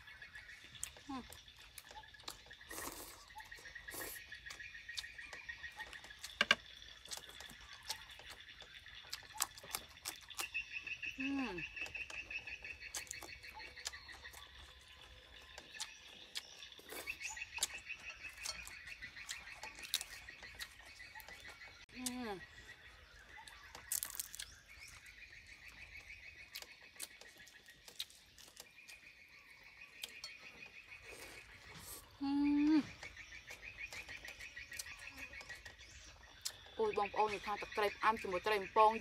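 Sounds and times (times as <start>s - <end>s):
chewing and slurping: 0.2s - 32.2s, 32.8s - 37.8s.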